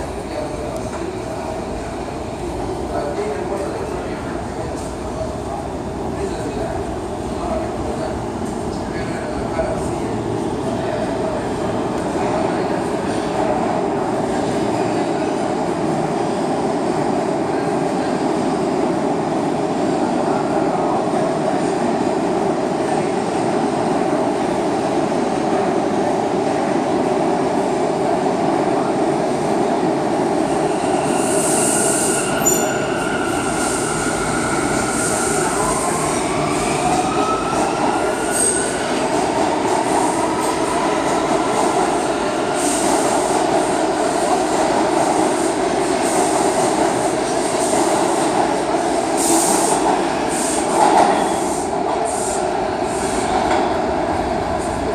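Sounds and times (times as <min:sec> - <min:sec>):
subway train wheels rumbling: 0:00.0 - 0:54.9.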